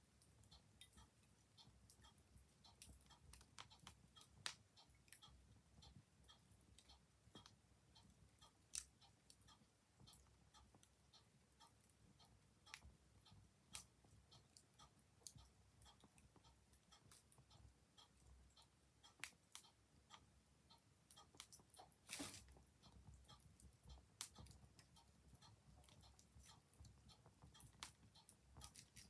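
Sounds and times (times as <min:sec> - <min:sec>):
clock ticking: 0:00.0 - 0:29.0.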